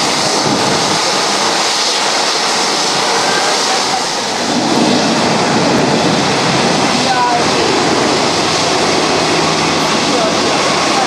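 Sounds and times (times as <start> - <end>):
jet engines rushing hiss: 0.0 - 11.0.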